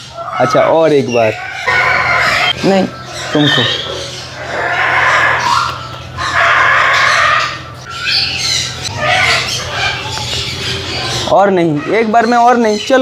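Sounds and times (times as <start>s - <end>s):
cockatoo squawking: 0.0s - 13.0s.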